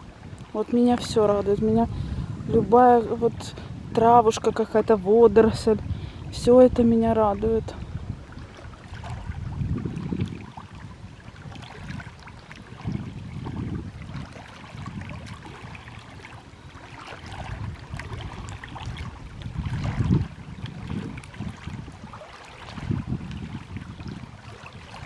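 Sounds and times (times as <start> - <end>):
water gurgling around rocks: 0.0 - 25.0
faint ticks and splashes: 0.3 - 1.7, 5.6 - 25.0.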